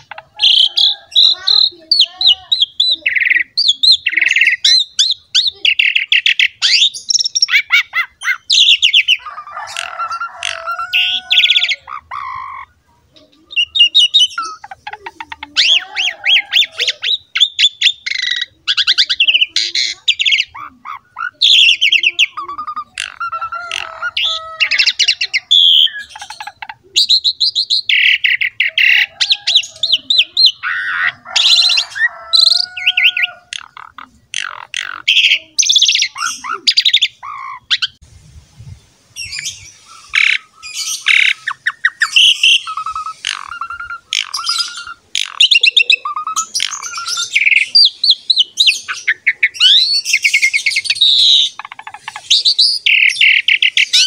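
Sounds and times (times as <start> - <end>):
myna bird singing: 0.0 - 38.0, 38.6 - 54.0.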